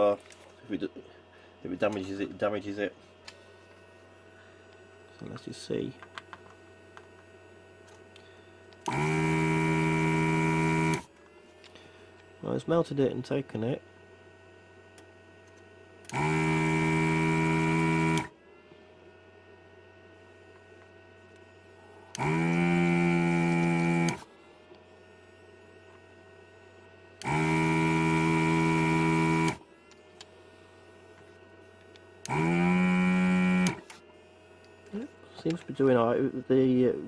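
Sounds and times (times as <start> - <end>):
fan humming: 0.0 - 37.0
vacuum pump buzzing: 1.6 - 37.0.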